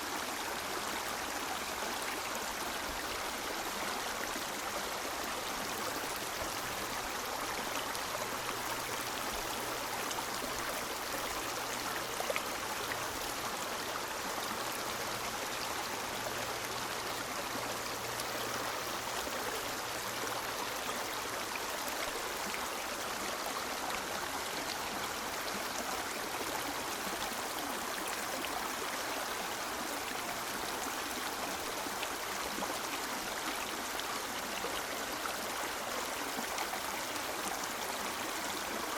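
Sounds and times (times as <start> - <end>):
river water rushing and gurgling: 0.0 - 38.9.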